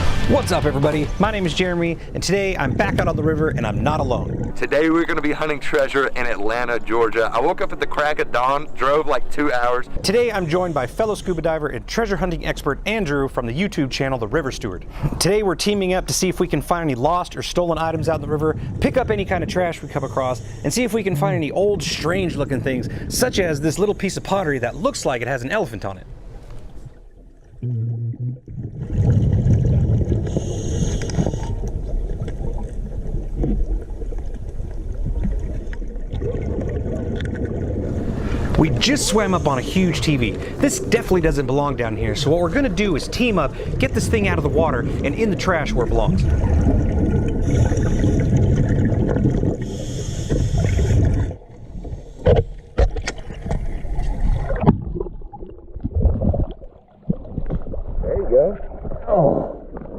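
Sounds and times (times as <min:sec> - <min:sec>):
muffled underwater river rumble: 0:00.0 - 0:10.8, 0:16.8 - 0:25.0, 0:26.0 - 0:59.9.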